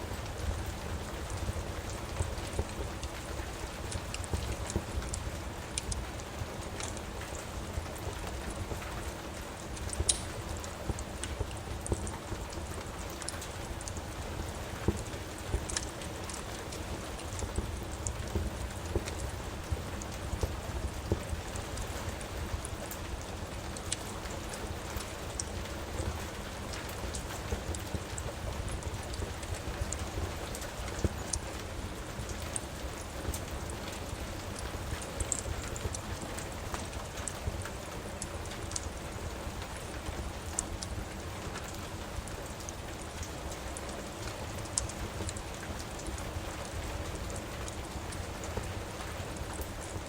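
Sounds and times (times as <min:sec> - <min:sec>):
steady rain: 0:00.0 - 0:50.0
wood fire crackling: 0:00.0 - 0:50.0.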